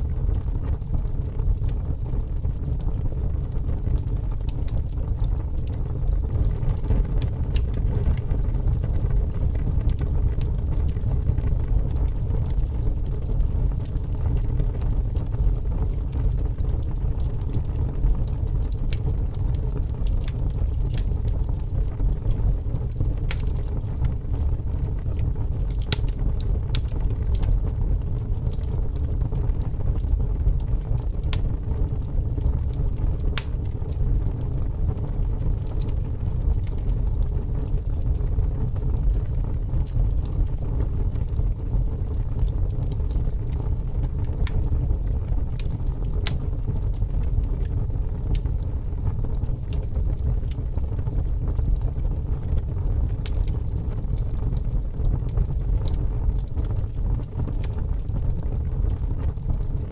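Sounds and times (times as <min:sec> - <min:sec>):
fire burning with crackles: 0:00.0 - 0:59.9.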